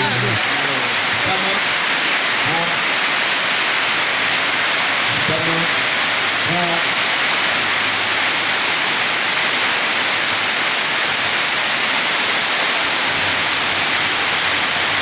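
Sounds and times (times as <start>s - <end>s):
rain on a metal roof: 0.0s - 15.0s.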